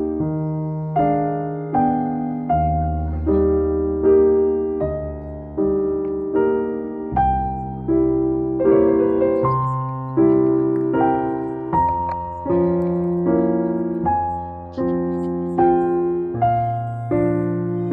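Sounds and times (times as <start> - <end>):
piano-like keyboard chords: 0.0 - 17.9.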